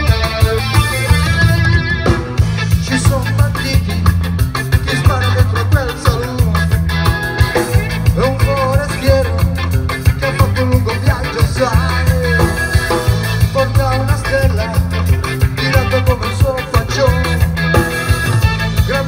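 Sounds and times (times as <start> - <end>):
live ska band playing: 0.0 - 19.0.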